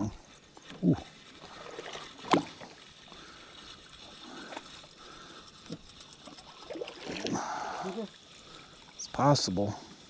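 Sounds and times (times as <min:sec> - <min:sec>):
water lapping against boat hull: 0:00.6 - 0:09.0.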